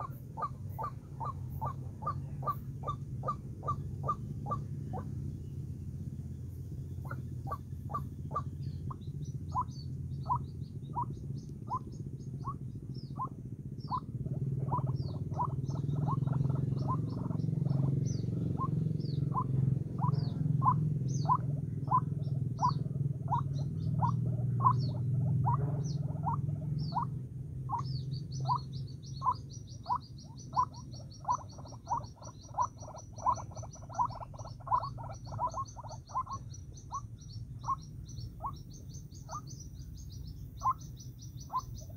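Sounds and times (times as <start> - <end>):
waterhen calling: 0.0 - 5.1, 7.0 - 41.9
steady low hum: 0.0 - 41.9.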